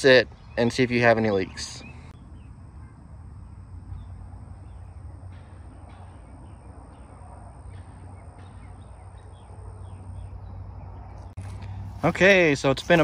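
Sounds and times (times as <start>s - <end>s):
bird chirps: 0.0s - 3.0s, 3.9s - 11.4s.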